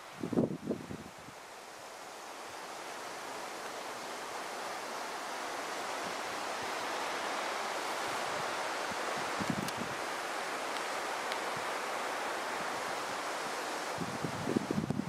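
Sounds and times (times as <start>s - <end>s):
wind rushing through trees: 0.0s - 15.0s.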